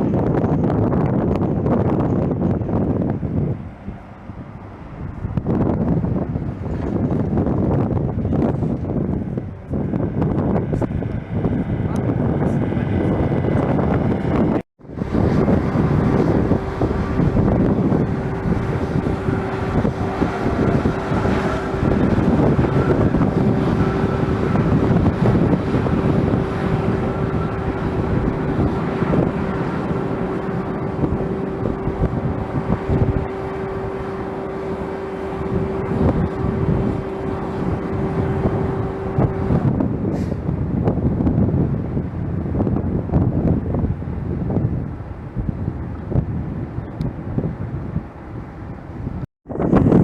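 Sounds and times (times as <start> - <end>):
jet engines whining: 0.0 - 43.8
wind buffeting microphone: 0.0 - 50.0.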